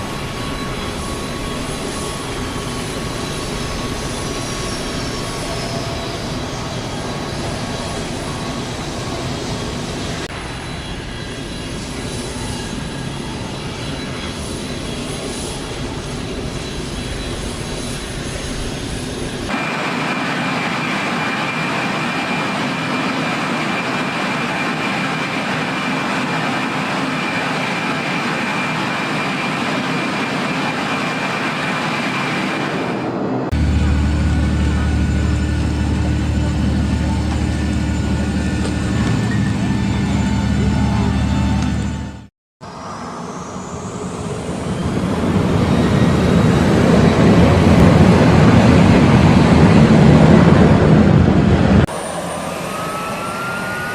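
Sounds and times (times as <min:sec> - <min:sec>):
aircraft engine running: 0:00.0 - 0:53.9
steady high whine: 0:00.0 - 0:53.9.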